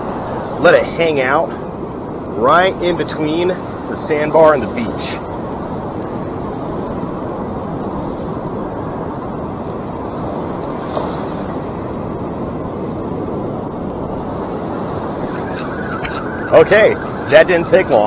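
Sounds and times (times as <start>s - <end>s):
ocean surf: 0.0s - 18.0s
wind at microphone: 0.0s - 18.0s.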